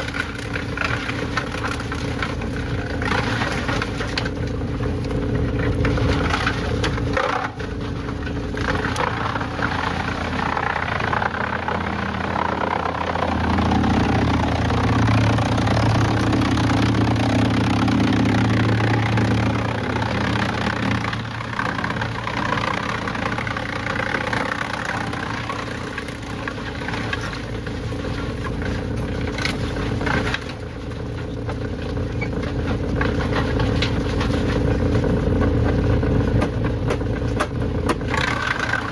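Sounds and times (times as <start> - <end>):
clattering grinding noise: 0.0 - 38.9
heavy machinery running: 0.0 - 38.9.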